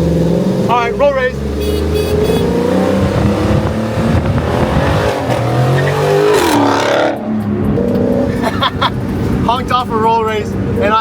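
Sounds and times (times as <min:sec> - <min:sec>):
car engines accelerating: 0:00.0 - 0:11.0.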